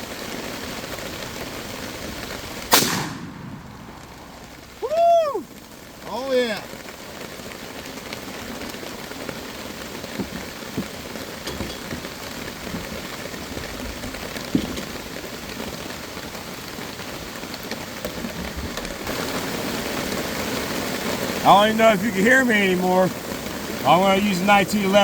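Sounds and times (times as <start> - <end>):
rain falling on a tarp: 0.0 - 25.0.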